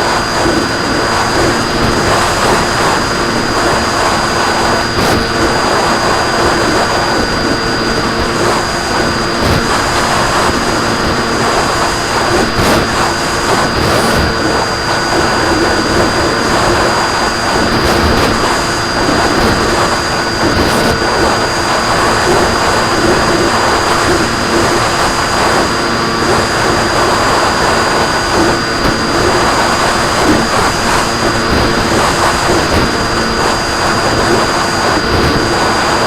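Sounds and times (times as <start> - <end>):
model plane motor droning: 0.0 - 36.0
wind rush: 0.0 - 36.0.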